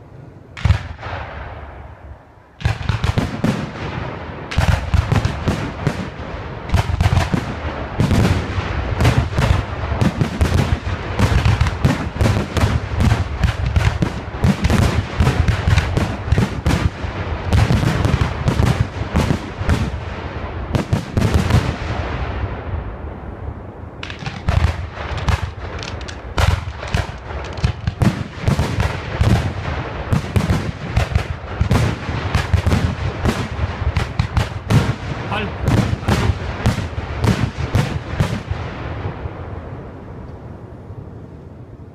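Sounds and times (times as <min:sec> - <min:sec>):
fireworks bursting: 0:00.5 - 0:40.5.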